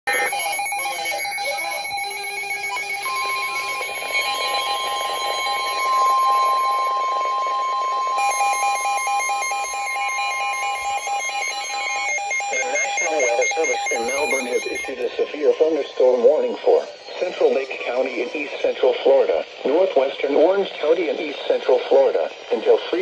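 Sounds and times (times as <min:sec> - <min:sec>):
long steady warning tone: 0:00.1 - 0:23.0
pulsing electronic alarm beeps: 0:00.1 - 0:23.0.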